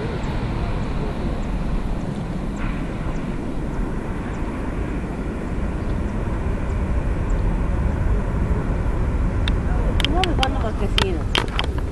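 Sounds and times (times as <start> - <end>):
distant jet engines rumbling: 0.0 - 11.9.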